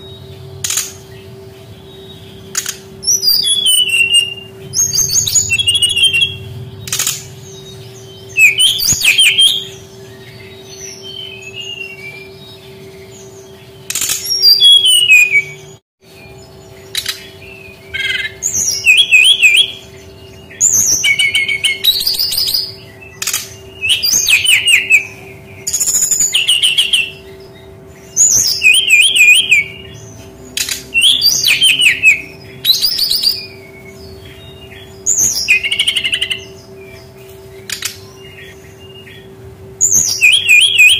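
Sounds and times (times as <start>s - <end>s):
bird singing whistles and trills: 0.0s - 40.9s
faint steady hum: 0.0s - 40.9s.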